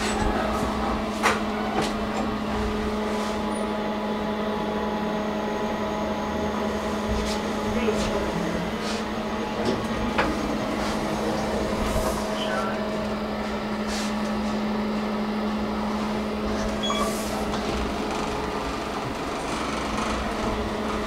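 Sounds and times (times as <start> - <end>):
elevator hum: 0.0 - 21.0.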